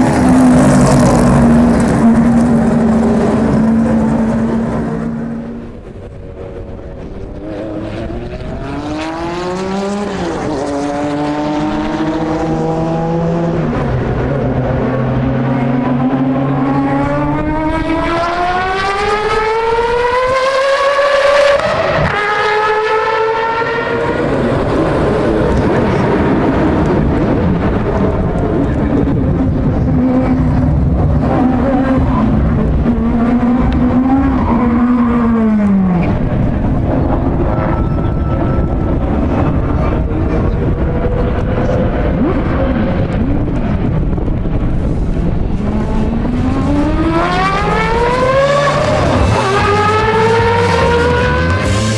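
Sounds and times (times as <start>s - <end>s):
rotary engine accelerating: 0.0s - 51.9s.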